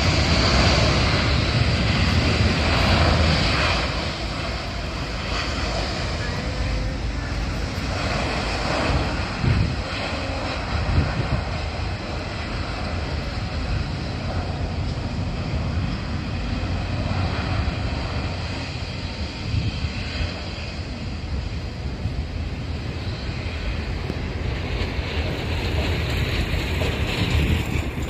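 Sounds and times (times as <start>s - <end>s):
distant jet engine rumble: 0.0s - 28.0s.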